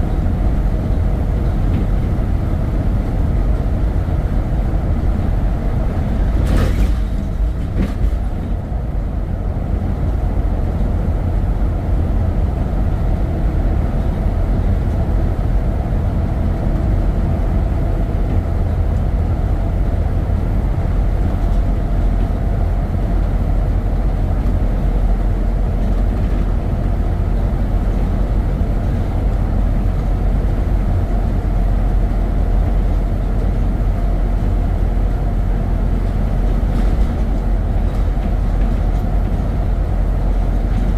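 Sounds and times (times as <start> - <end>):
vehicle driving rumble: 0.0 - 40.9.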